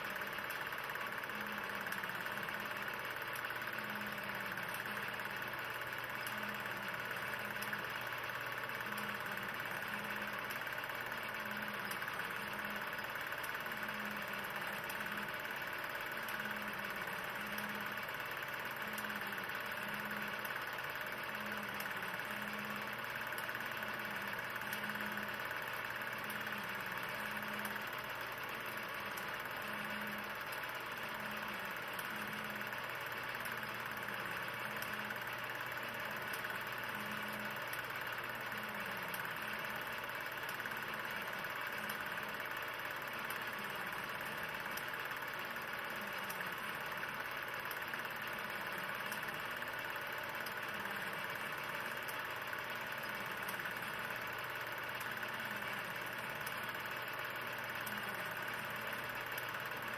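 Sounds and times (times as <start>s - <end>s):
mechanical hum with hiss: 0.0s - 59.9s.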